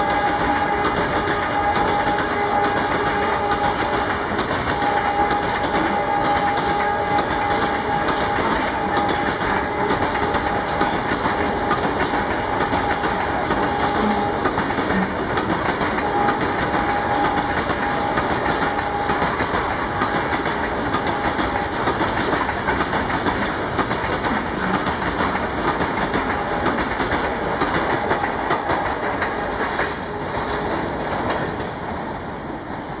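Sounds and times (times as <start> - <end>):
train wheels clattering over rail joints: 0.0 - 33.0.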